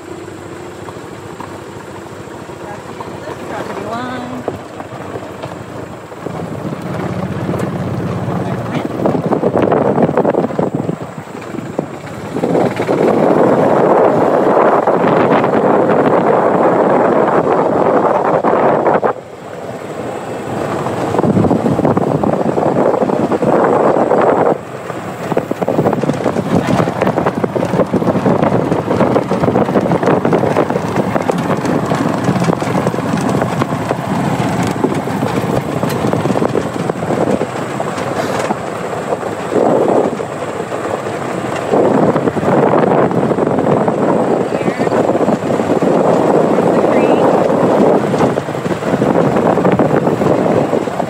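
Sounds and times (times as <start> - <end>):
vehicle driving: 0.0 - 51.0
wind buffeting microphone: 0.0 - 51.0.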